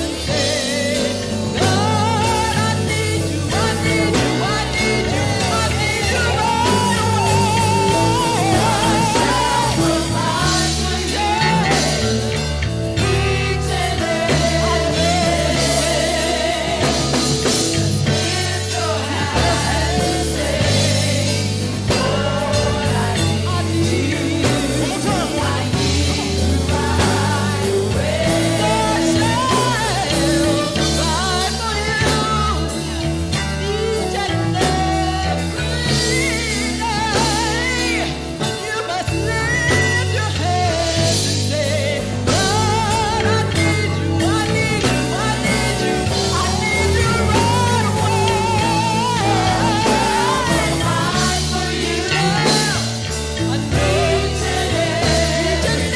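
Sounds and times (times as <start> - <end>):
band with bass and drums: 0.0 - 55.9
person singing with vibrato: 0.0 - 55.9.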